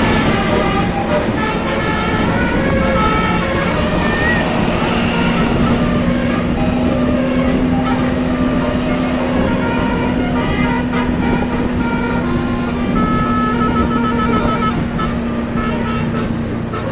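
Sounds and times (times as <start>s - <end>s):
bus engine humming: 0.0s - 16.9s
musical bus horn notes: 0.0s - 16.9s.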